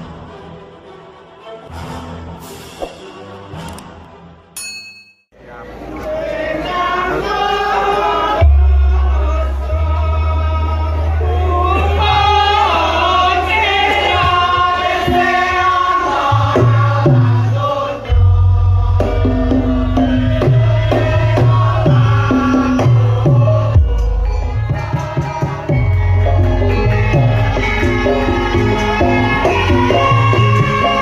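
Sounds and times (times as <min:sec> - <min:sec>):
percussion ensemble: 0:01.7 - 0:05.1, 0:08.4 - 0:31.0
singing: 0:05.4 - 0:31.0.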